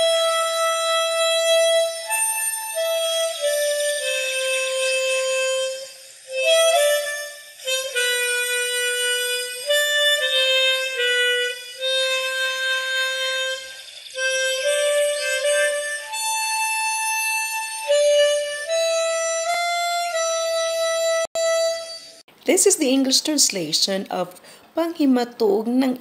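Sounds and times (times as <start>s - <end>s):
reedy wind instrument melody: 0.0s - 22.2s.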